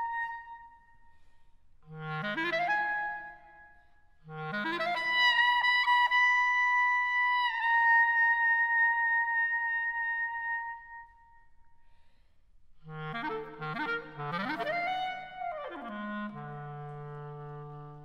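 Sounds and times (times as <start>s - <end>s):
solo clarinet: 0.0s - 11.6s, 12.8s - 18.0s.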